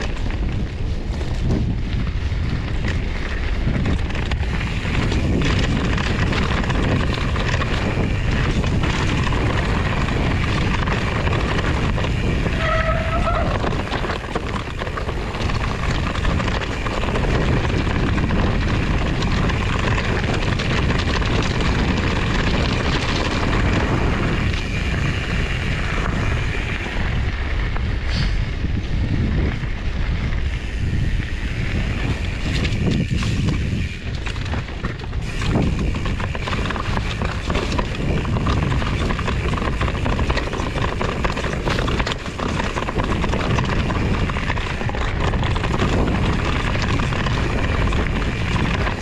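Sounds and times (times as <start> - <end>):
bike tyres rolling over stones: 0.0 - 49.0
wind on microphone: 0.0 - 49.0.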